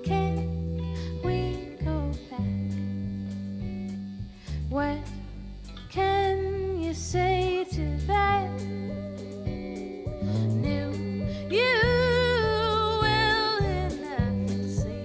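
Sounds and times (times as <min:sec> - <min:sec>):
woman singing: 0:00.0 - 0:02.8, 0:04.7 - 0:05.2, 0:05.9 - 0:15.0.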